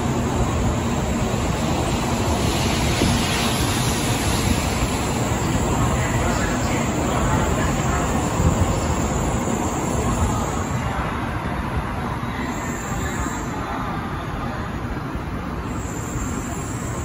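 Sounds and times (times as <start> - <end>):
train accelerating away: 0.0 - 13.6.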